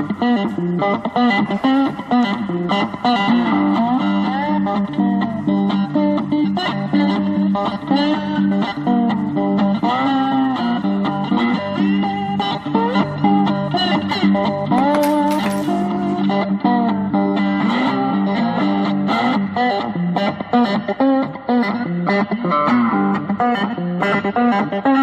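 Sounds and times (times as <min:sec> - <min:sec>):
electric guitar music with bass: 0:00.0 - 0:25.0.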